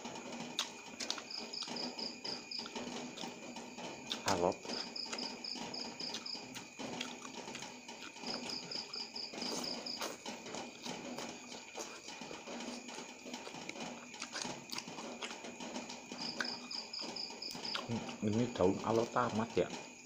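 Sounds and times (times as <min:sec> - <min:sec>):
cricket chirping: 0:00.0 - 0:20.0
wet chewing and slurping: 0:00.3 - 0:18.2.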